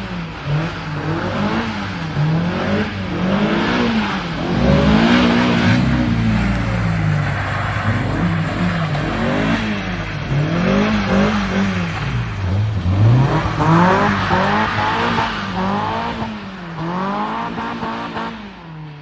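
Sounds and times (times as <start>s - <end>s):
car engine revving: 0.0s - 19.0s
tyre and road noise: 0.0s - 19.0s.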